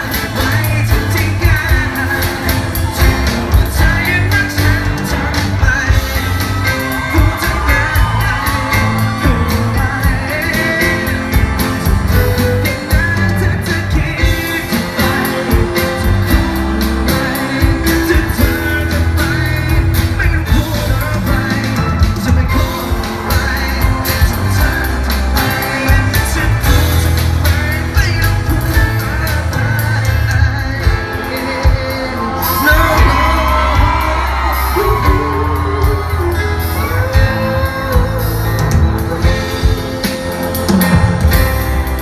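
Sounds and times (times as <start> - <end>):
man singing into microphone: 0.0 - 39.9
band playing pop music: 0.0 - 42.0.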